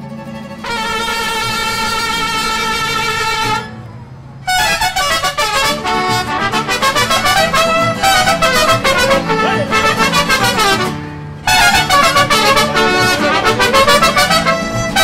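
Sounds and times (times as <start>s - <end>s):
brass music with trumpets: 0.6s - 15.0s
held musical note: 0.6s - 15.0s.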